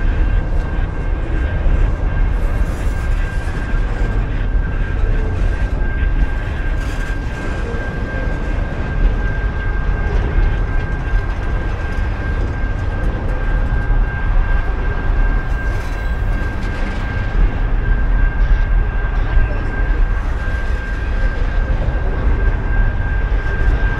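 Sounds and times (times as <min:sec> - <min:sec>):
high-pitched whine: 0:00.0 - 0:23.9.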